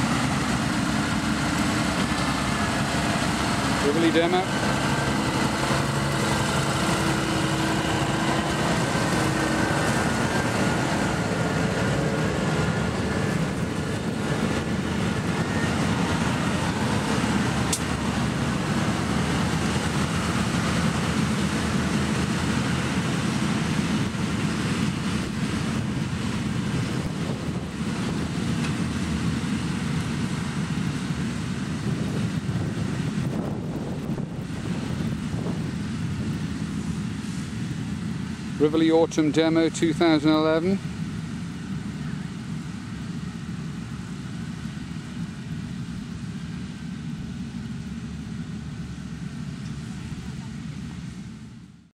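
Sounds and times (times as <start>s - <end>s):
tractor diesel engines droning: 0.0s - 51.9s.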